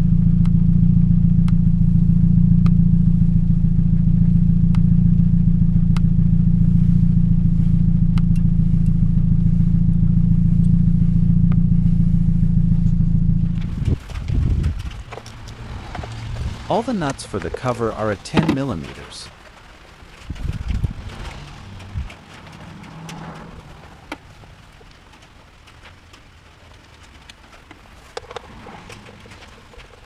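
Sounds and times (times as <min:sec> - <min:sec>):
car engine idling with misfire: 0:00.0 - 0:30.0.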